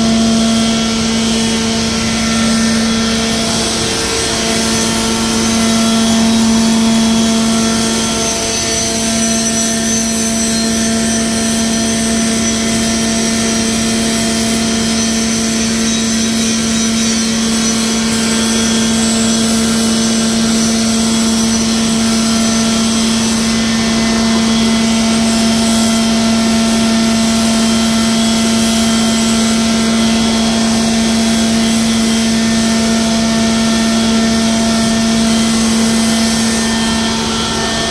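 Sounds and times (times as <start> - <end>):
machinery drone: 0.0 - 37.9.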